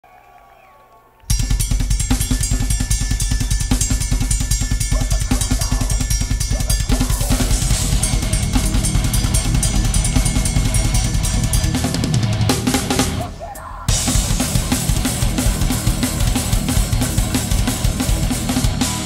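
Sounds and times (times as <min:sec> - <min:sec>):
cymbals: 0:01.3 - 0:19.0
fast bass drum strokes: 0:01.3 - 0:19.0.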